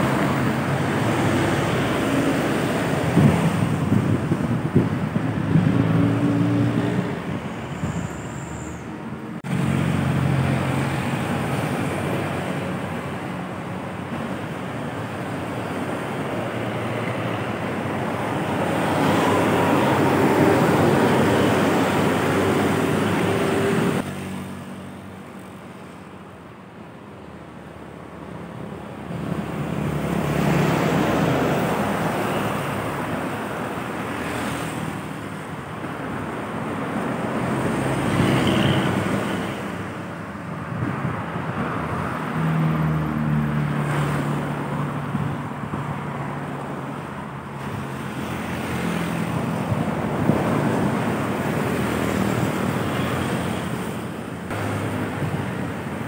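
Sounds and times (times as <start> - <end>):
vehicles driving past: 0.0 - 56.0.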